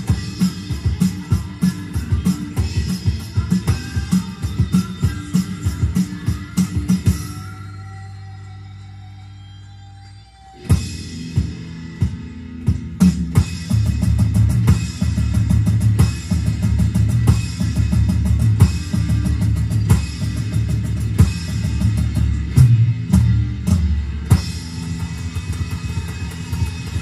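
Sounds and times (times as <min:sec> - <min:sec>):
drums and cymbal crashes: 0:00.0 - 0:07.6, 0:10.6 - 0:27.0
hard rock song: 0:00.0 - 0:07.8, 0:10.6 - 0:27.0.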